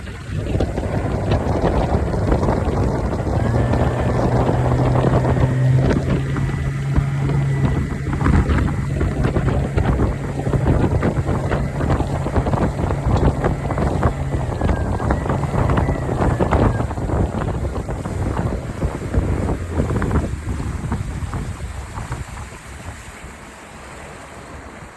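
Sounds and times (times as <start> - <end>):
wind on microphone: 0.0 - 23.5
outboard engine running: 0.0 - 24.9
water rushing: 0.0 - 24.9.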